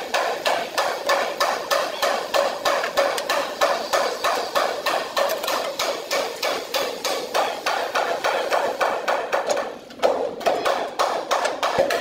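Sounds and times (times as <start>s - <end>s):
sharp knocks: 0.1s - 12.0s.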